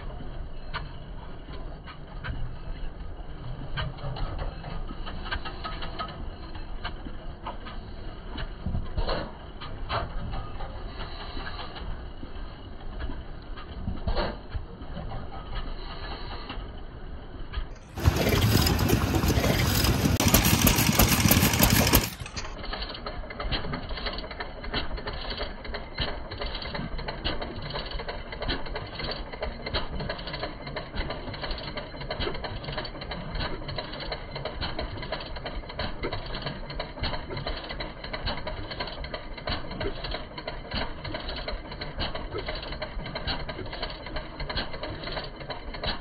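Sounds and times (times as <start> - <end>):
engines clattering: 0.0 - 46.0.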